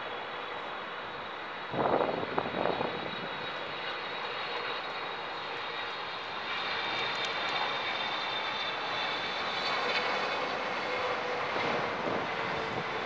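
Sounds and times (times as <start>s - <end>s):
jet engines rushing with high whine: 0.0s - 13.0s.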